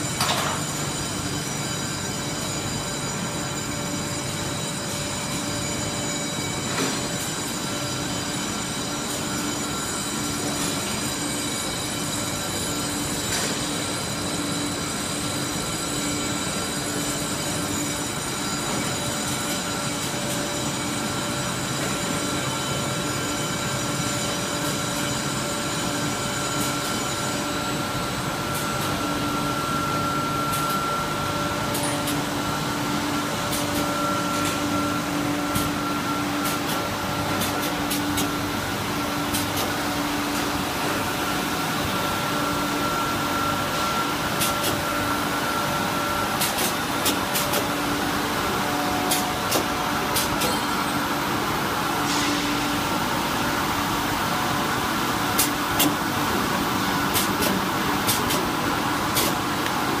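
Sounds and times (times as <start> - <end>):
machine noise from pump motors: 0.0 - 60.0.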